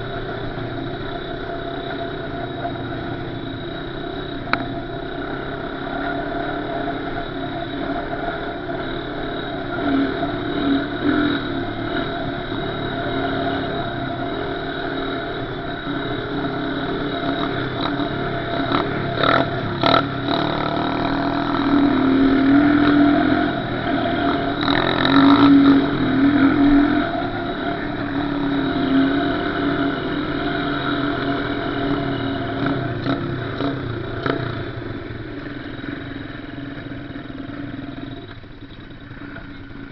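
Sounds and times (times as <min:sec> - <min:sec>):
small off-road engine revving: 0:00.0 - 0:39.9.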